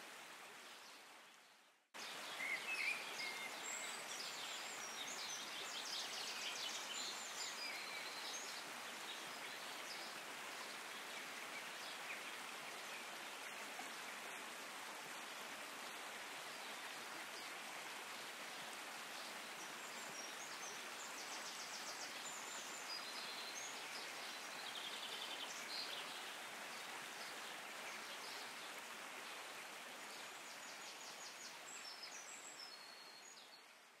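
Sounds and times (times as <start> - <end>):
stream water rushing: 0.0 - 1.4, 2.0 - 34.0.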